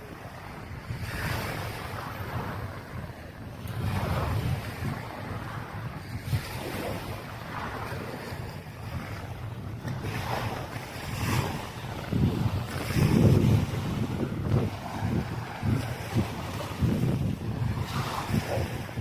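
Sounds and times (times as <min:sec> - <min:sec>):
surf washing: 0:00.0 - 0:19.0
wind buffeting microphone: 0:00.0 - 0:19.0.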